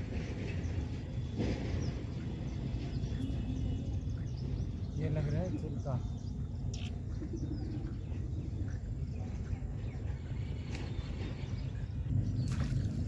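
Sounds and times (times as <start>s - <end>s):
steady low rumble: 0.0s - 13.0s
birds calling: 1.2s - 13.0s.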